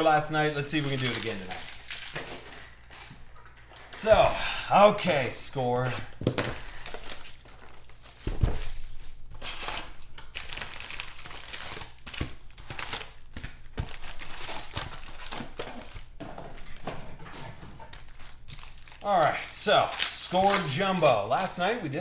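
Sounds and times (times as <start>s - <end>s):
foil packs crinkling: 0.0s - 3.2s, 5.4s - 21.7s.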